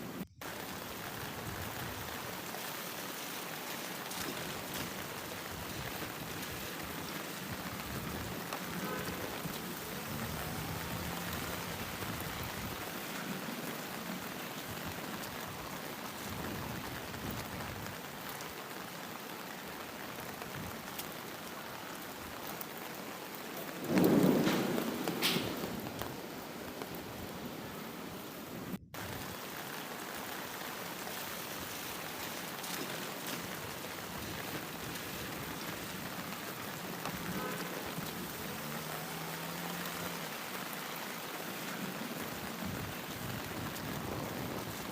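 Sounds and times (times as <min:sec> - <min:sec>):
heavy rain: 0:00.0 - 0:44.9.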